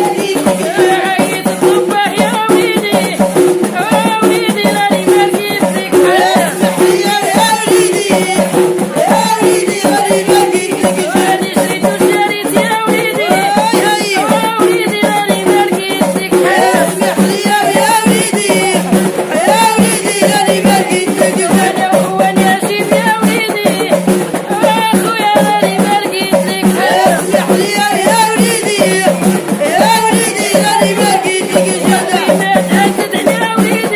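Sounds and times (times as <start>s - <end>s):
person singing: 0.0s - 33.9s
rattle and drum percussion: 0.0s - 33.9s.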